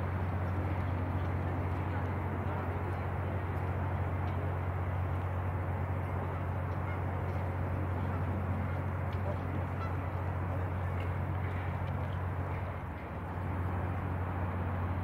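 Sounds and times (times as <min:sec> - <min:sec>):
boat engines idling: 0:00.0 - 0:15.0.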